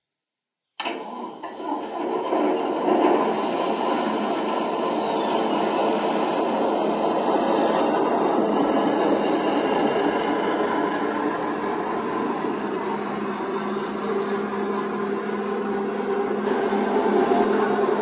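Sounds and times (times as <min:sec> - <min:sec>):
model train running on track: 0:00.8 - 0:18.0.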